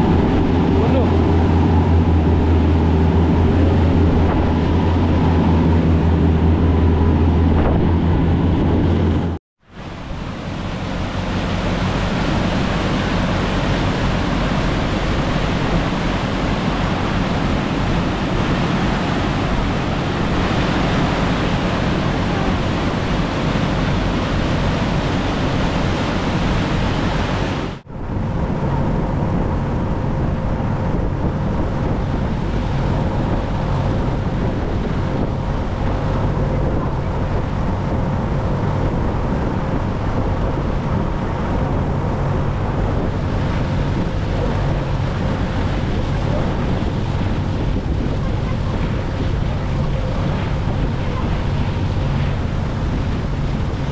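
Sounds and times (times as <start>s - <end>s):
faint engine hum: 0.0s - 53.9s
ferry wake rushing: 0.0s - 53.9s
wind buffeting microphone: 0.0s - 53.9s.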